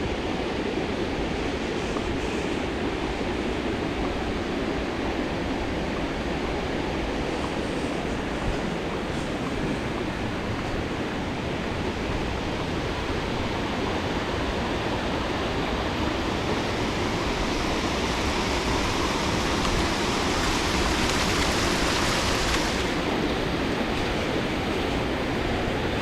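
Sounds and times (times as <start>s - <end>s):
rushing waterfall: 0.0s - 26.0s.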